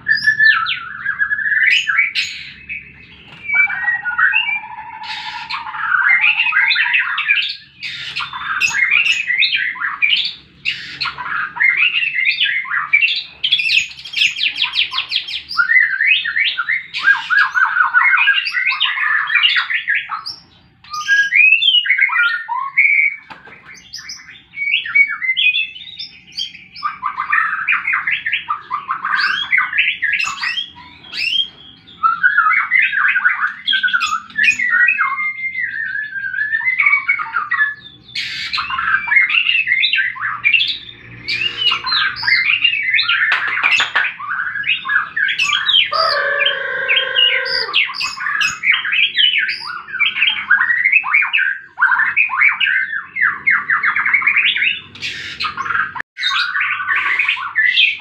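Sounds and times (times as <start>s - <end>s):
songbird whistling and trilling: 0.0s - 58.0s.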